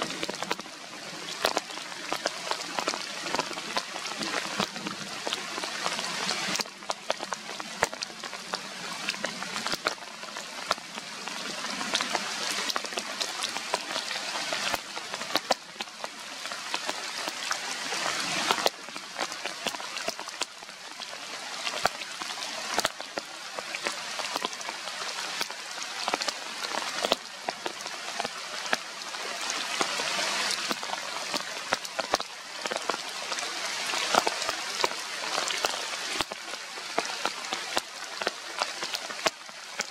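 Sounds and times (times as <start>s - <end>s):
close raindrops hitting: 0.0s - 39.9s
rain falling on leaves: 0.0s - 39.9s.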